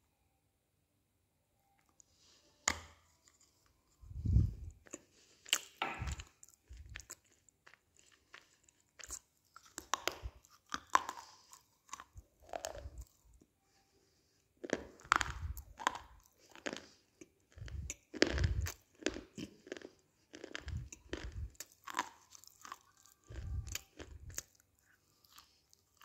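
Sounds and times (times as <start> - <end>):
crunchy chewing of clay: 4.1 - 13.6, 14.6 - 26.0.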